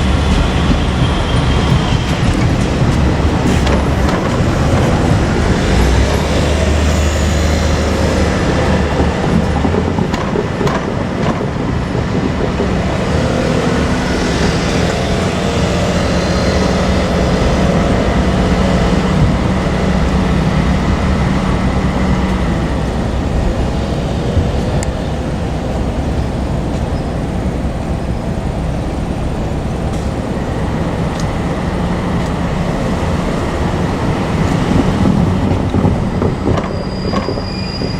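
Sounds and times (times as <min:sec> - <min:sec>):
diesel engine drone: 0:00.0 - 0:36.6
rail clicks: 0:00.0 - 0:37.9
wheels rumbling on rails: 0:00.0 - 0:37.9.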